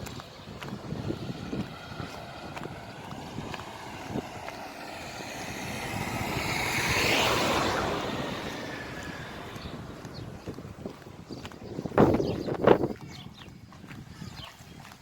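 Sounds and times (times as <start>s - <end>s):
vehicle passing by: 0.0s - 12.9s
wind rumble on microphone: 0.0s - 15.0s.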